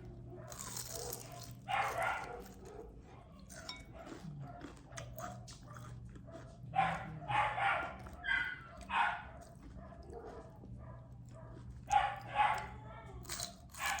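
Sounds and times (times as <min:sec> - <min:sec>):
dog barking: 0:00.3 - 0:03.2, 0:03.8 - 0:12.8, 0:13.8 - 0:14.0.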